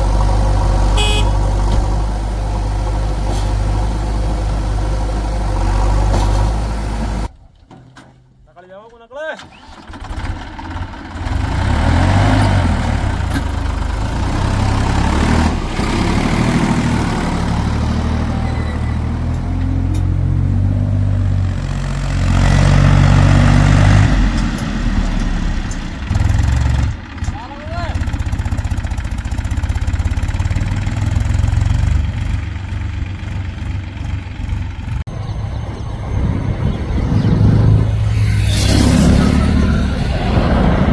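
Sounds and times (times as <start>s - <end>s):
heavy diesel engine running: 0.0s - 7.3s, 9.6s - 40.9s.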